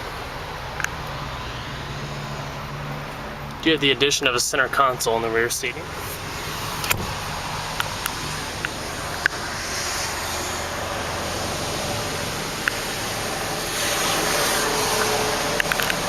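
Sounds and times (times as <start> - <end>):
rushing background noise: 0.0 - 16.0.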